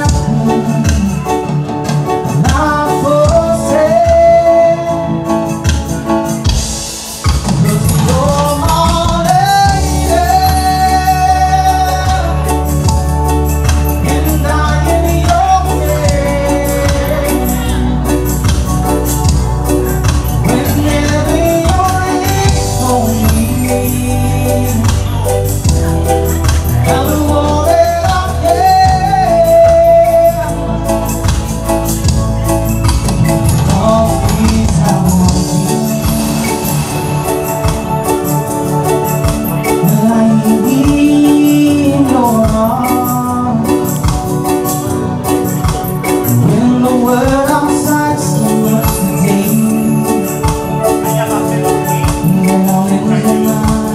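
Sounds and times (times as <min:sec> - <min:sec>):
man singing: 0:00.0 - 0:06.5, 0:07.2 - 0:53.9
bass line: 0:00.0 - 0:53.9
drums: 0:00.0 - 0:53.9.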